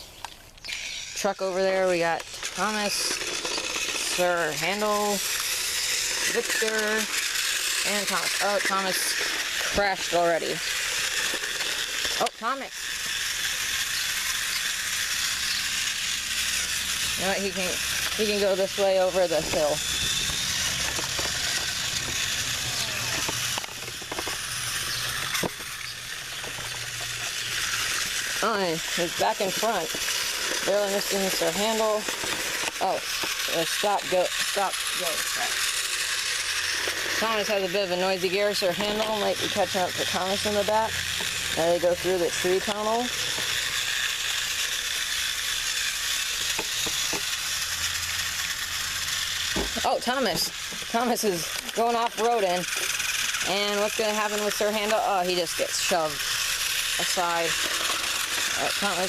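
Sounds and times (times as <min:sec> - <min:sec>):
toy train motors humming: 0:00.0 - 0:59.0
toy train wheels clicking on track: 0:00.0 - 0:59.0.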